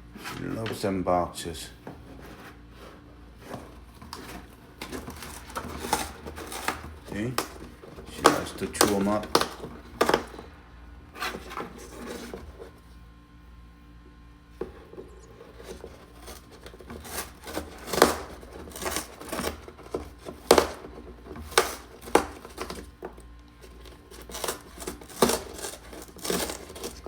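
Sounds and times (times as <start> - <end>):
parrot tearing cardboard: 1.8 - 13.0, 14.6 - 27.0.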